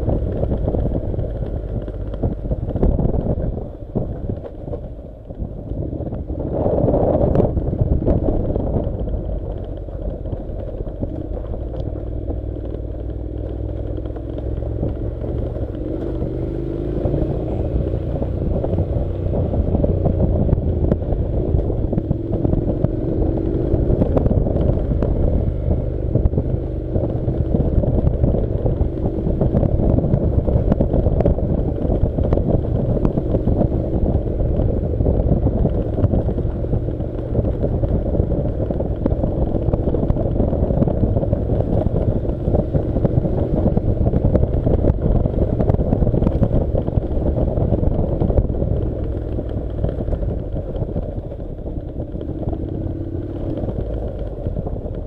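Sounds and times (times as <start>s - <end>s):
gravel rattling under tyres: 0.0s - 55.0s
motorcycle engine running: 0.0s - 55.0s
wind on microphone: 0.0s - 55.0s.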